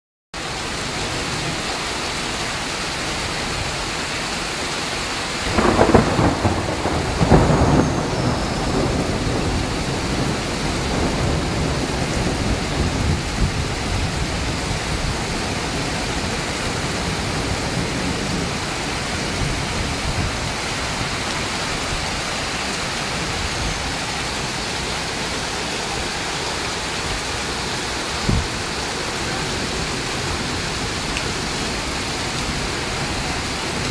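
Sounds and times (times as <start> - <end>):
heavy rain falling: 0.4 - 33.9
thunder rumbling: 5.5 - 33.9.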